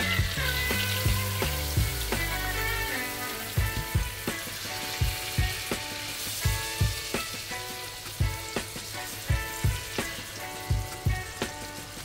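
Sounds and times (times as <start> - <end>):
chicken sizzling in frying pan: 0.0 - 12.0
music with thumping beat: 0.0 - 12.0.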